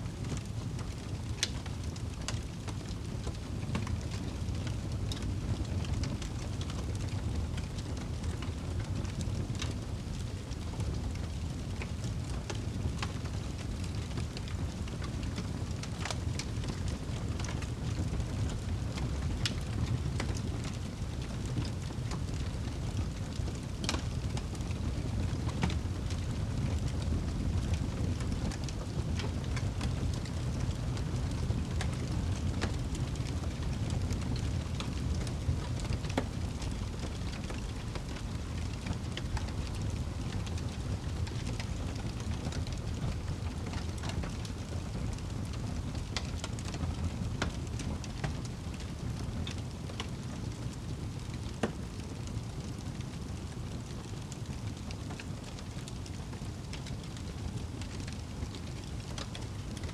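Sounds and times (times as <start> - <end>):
low rumble of fire: 0.0 - 59.9
fire crackling: 0.1 - 59.9.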